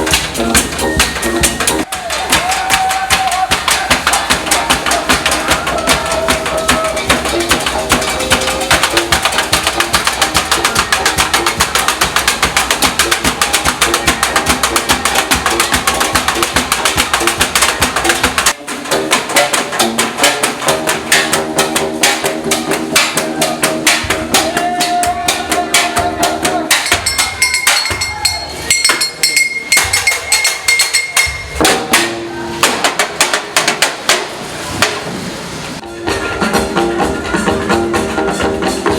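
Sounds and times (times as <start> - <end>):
percussion-led music: 0.0 - 38.9.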